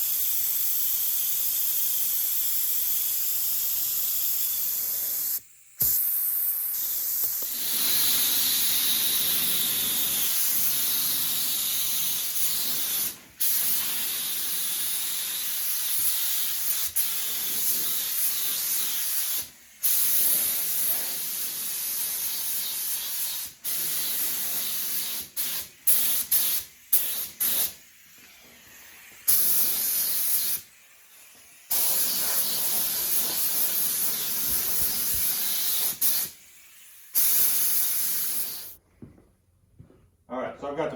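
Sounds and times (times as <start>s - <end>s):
spray gun hissing: 0.0s - 38.8s.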